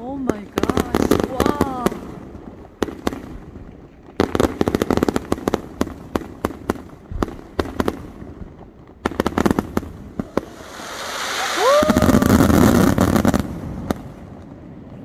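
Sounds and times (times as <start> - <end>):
fireworks crackling pops: 0.0 - 15.0.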